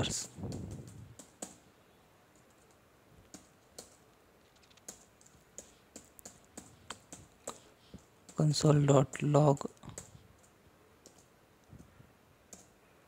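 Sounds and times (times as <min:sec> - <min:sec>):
keyboard typing: 0:00.0 - 0:01.6, 0:02.3 - 0:12.8.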